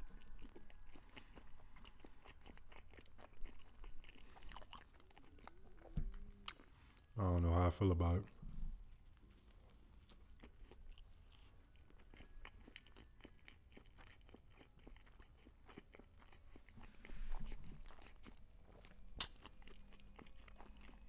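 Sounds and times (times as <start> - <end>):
chewing crunches: 0.0 - 21.0.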